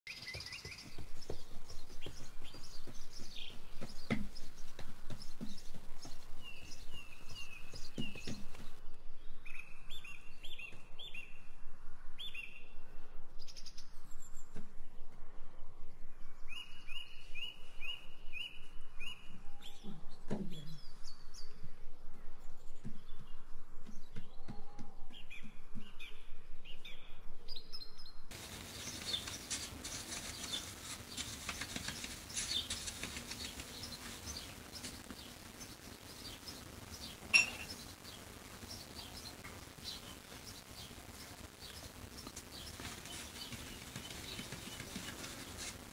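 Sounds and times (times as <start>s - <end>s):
small birds chirping: 0.1s - 11.6s, 16.2s - 45.9s.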